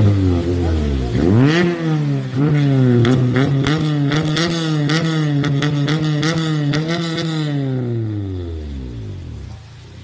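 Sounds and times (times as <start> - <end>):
car engine bouncing off rev limiter: 0.0 - 9.5
exhaust spitting water: 0.0 - 10.0.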